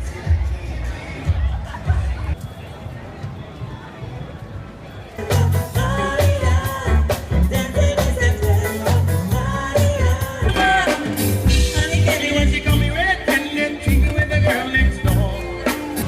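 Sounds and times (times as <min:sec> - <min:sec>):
upbeat ska music with singing: 0:00.0 - 0:02.4, 0:05.1 - 0:16.0.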